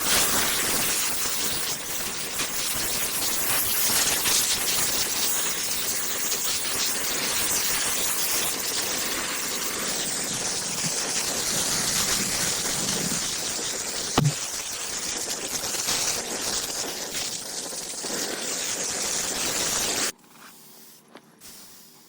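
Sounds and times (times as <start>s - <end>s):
rushing gas hiss: 0.0s - 22.0s.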